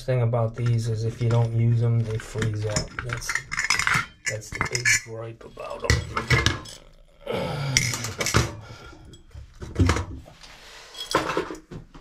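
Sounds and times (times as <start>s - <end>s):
metal parts and tools clinking: 0.5s - 10.1s, 10.8s - 11.8s.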